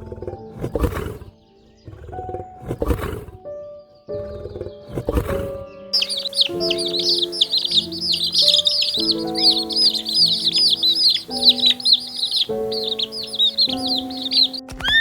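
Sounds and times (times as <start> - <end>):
many small birds chirping: 0.0 - 2.8, 3.5 - 15.0
soft background music: 0.0 - 15.0.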